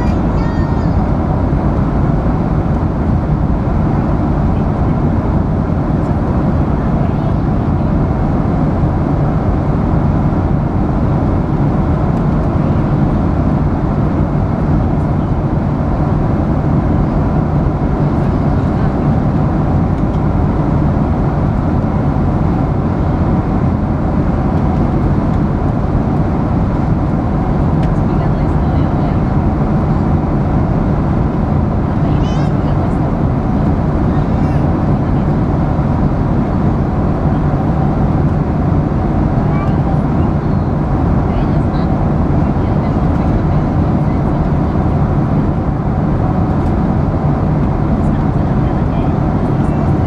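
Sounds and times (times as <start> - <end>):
airliner cabin noise: 0.0 - 50.0.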